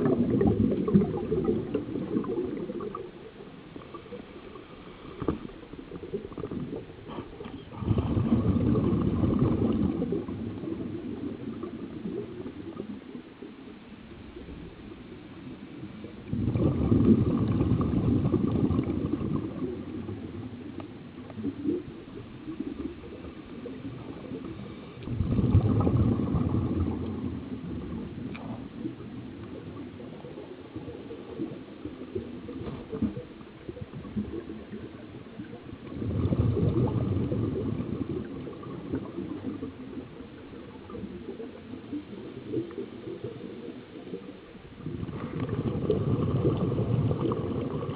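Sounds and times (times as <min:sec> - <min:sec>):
underwater exhaled bubbles gurgling: 0:00.0 - 0:47.9.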